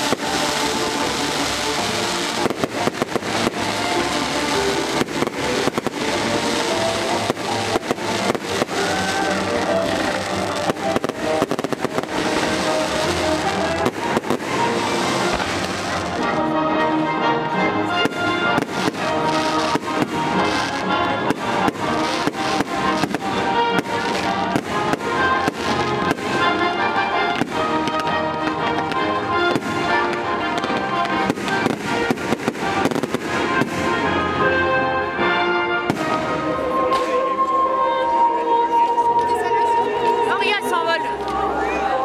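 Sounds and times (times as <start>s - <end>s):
fireworks bursting: 0.0s - 16.7s, 17.8s - 34.8s, 35.8s - 42.0s
music playing: 0.0s - 42.0s.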